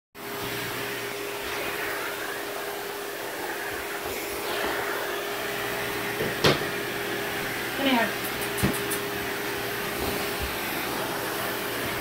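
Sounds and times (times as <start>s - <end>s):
vacuum cleaner running: 0.2s - 12.0s.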